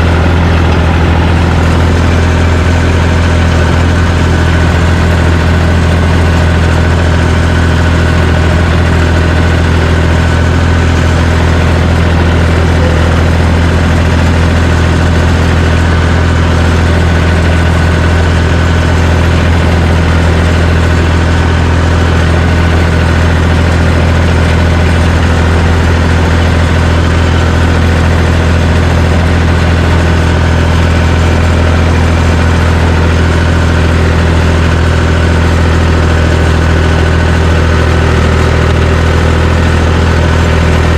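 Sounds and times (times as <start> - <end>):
bulldozer engine running: 0.0 - 40.9.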